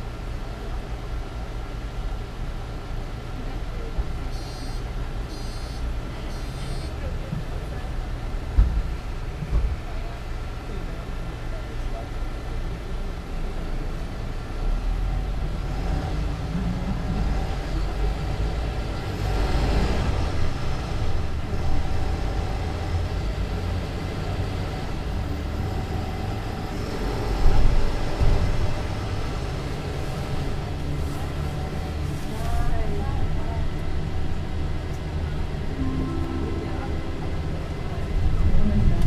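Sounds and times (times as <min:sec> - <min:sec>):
bus engine droning: 0:00.0 - 0:39.0.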